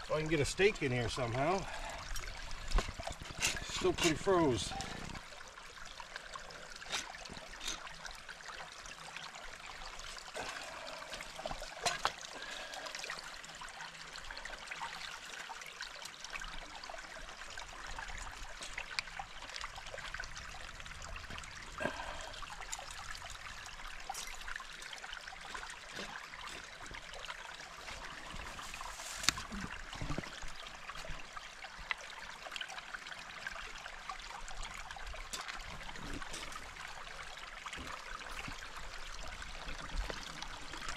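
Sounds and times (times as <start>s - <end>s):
brook water trickling: 0.0s - 40.9s.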